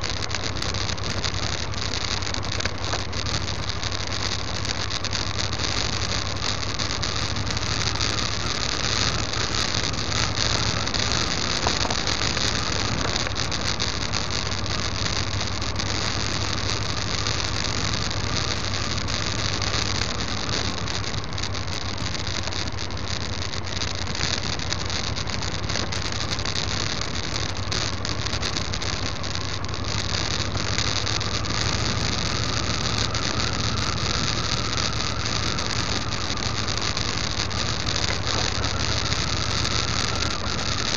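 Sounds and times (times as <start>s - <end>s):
low engine hum: 0.0s - 40.9s
small rattles and ticks: 0.0s - 40.9s
tyres on gravel road: 0.0s - 40.9s.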